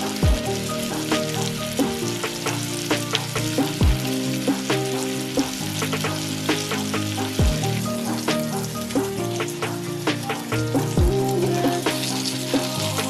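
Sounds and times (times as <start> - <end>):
background music: 0.0 - 13.0
fish sizzling in frying pan: 0.0 - 13.0.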